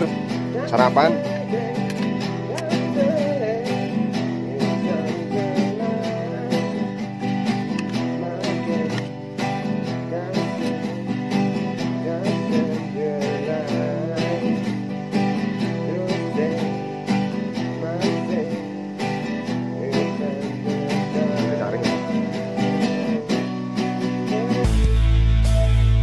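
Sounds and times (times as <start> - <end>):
song with plucked acoustic guitar: 0.0 - 26.0.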